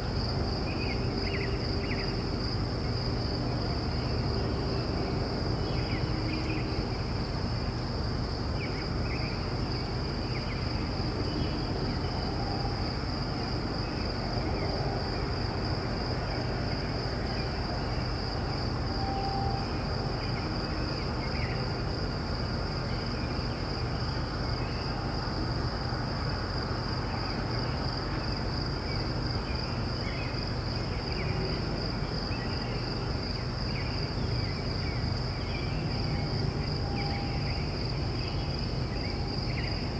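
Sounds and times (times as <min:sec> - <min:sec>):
distant crickets trilling: 0:00.0 - 0:39.9.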